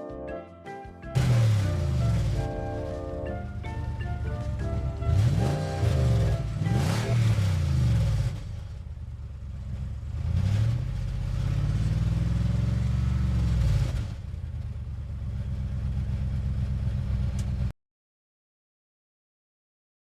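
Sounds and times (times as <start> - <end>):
van engine revving and idling: 1.2 - 17.7.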